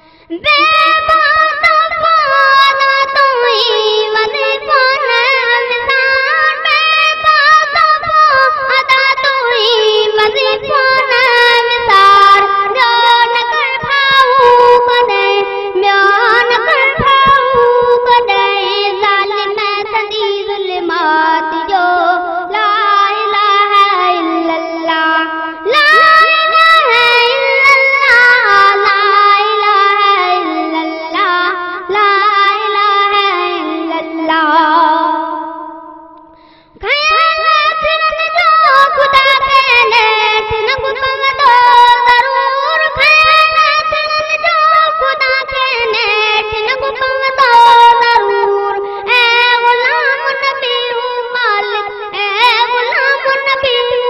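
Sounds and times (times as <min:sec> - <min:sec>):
boy singing a hymn: 0:00.0 - 0:54.0.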